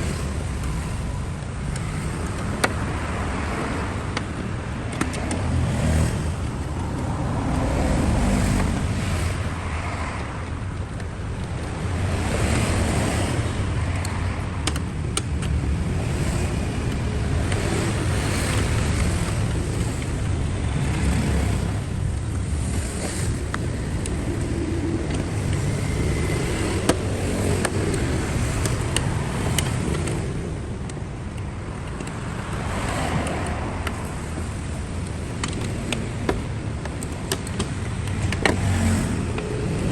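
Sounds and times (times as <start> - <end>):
car running: 0.0 - 39.9.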